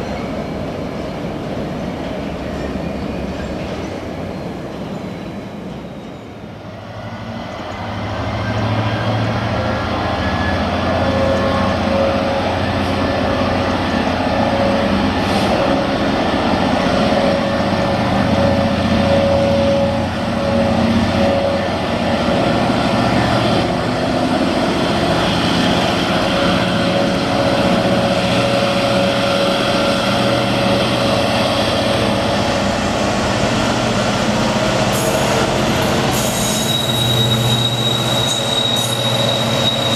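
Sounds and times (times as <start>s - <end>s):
diesel locomotive engine droning: 0.0s - 39.9s.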